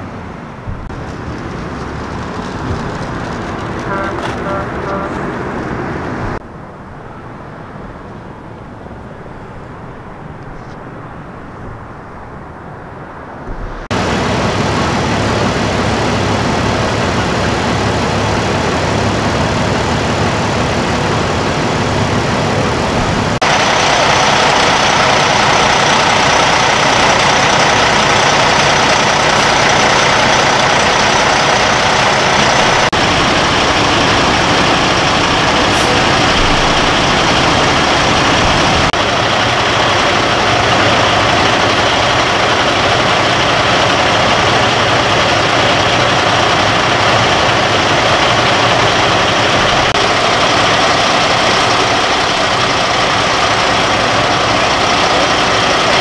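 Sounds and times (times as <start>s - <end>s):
tow truck engines idling: 0.0s - 11.8s, 12.9s - 56.0s.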